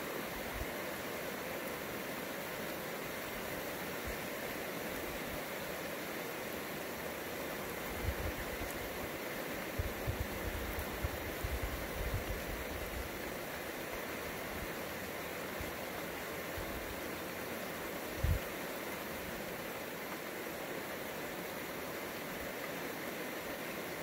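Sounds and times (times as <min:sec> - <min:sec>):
rain hissing: 0:00.0 - 0:24.0.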